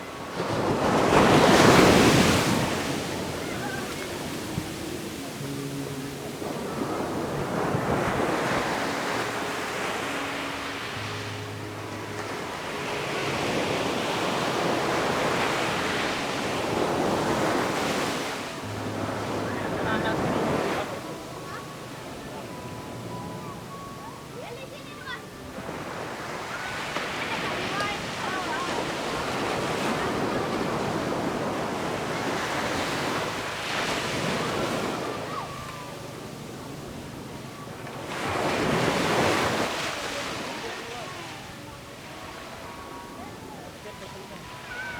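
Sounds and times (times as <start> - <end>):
waves breaking on a beach: 0.0 - 44.9.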